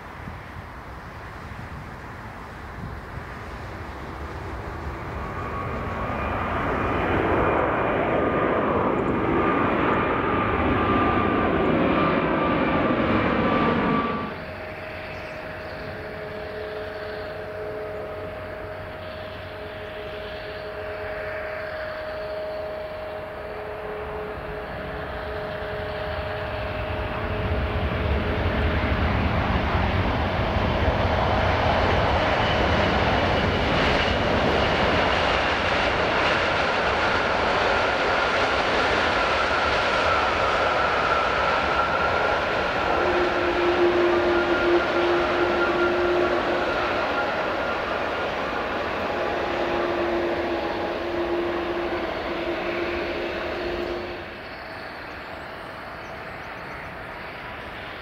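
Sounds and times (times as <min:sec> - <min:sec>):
airliner rolling on wet runway: 0:00.0 - 0:58.0
jet engines whining: 0:00.0 - 0:58.0.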